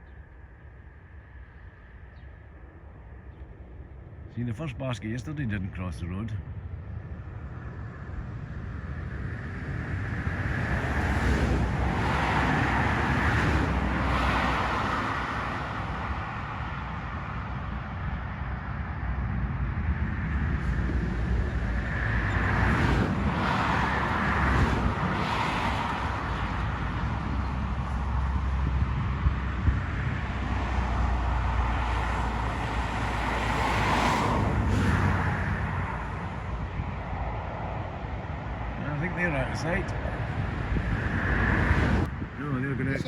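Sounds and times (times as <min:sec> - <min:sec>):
steady low traffic rumble: 0:00.0 - 0:43.0
cars passing by: 0:06.8 - 0:43.0.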